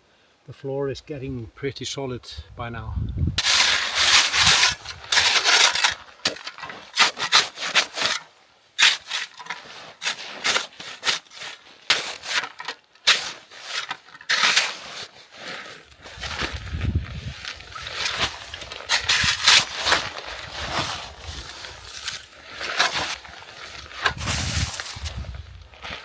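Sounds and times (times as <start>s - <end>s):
snow crunching and scraping: 3.4s - 26.0s.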